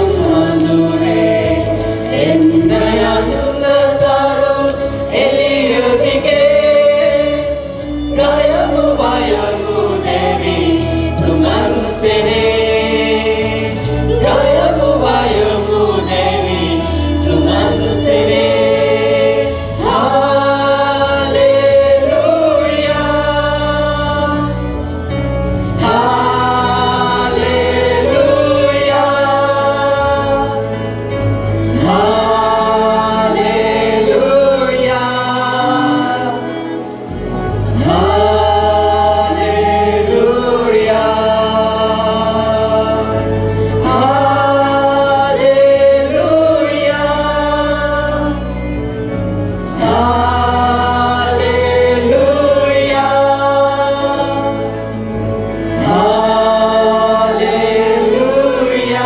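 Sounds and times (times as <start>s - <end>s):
mixed choir singing: 0.0s - 59.0s
sustained bass notes: 0.0s - 59.0s.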